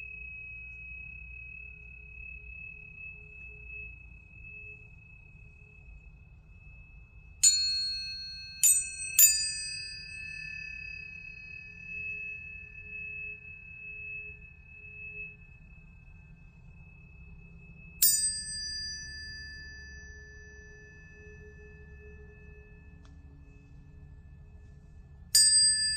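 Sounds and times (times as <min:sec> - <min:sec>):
pure ringing tones: 0:00.0 - 0:25.9
tuning fork metallic ping: 0:00.0 - 0:25.9.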